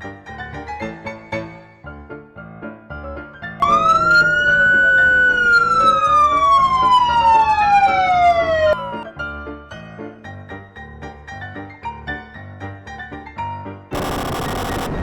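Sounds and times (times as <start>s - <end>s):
soft piano music: 0.0s - 13.9s.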